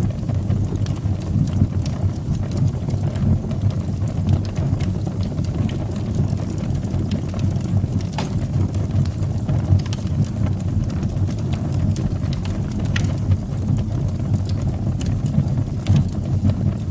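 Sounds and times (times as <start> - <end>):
fire flames rumbling: 0.0 - 16.9
wood fire crackling and popping: 0.0 - 16.9.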